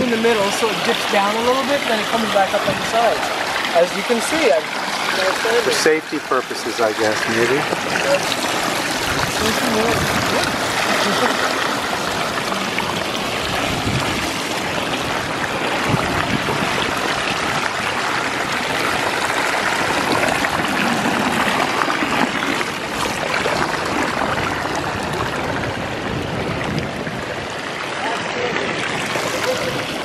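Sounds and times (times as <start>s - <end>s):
waterfall splashing into pool: 0.0s - 30.0s.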